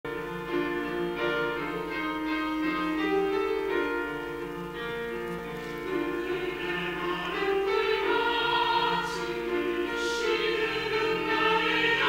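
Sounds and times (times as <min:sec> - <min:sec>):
piano long-held chords: 0:00.1 - 0:12.0.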